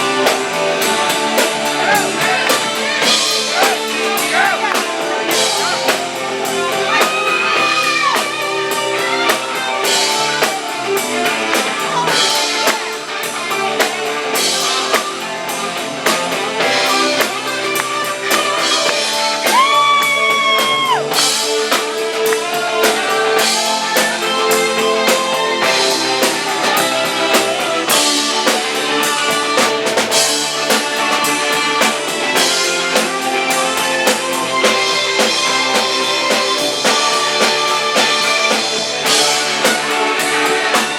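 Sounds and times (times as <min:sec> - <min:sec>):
drum kit: 0:00.0 - 0:40.9
electric guitar: 0:00.0 - 0:40.9.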